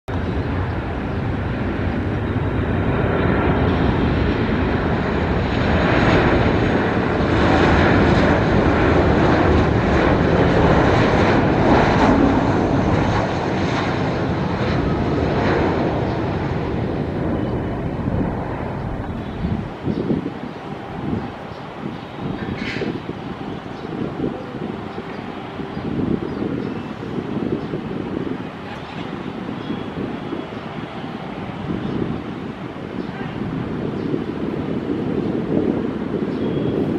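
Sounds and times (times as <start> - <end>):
airliner jet engine rushing: 0.1 - 36.9.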